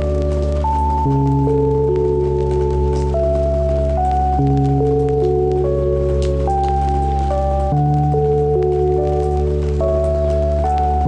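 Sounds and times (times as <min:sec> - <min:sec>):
ambient music with organ chords: 0:00.0 - 0:11.0.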